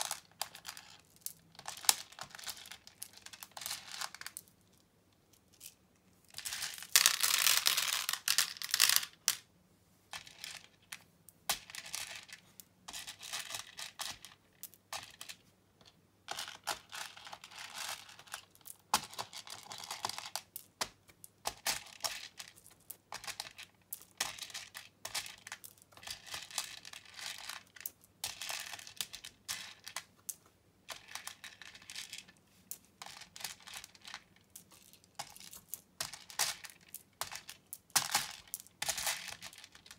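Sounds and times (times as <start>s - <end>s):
plastic beads clicking and rattling: 0.0s - 9.4s, 10.1s - 39.9s.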